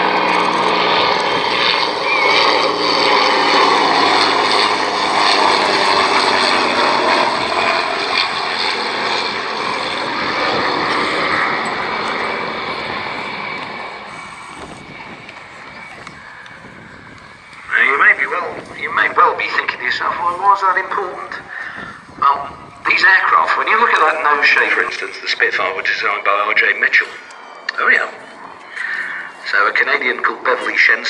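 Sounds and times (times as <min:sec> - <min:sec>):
propeller aircraft flying past: 0:00.0 - 0:31.0.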